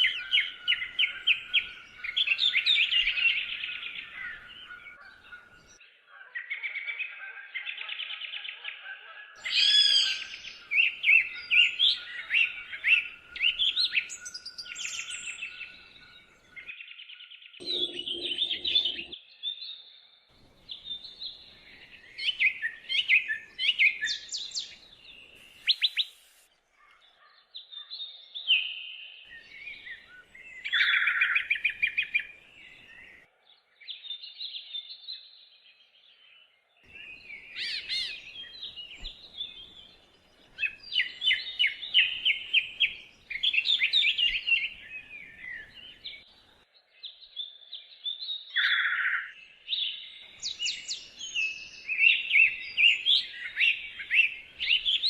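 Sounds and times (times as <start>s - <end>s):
songbirds singing and calling: 0.0s - 55.0s.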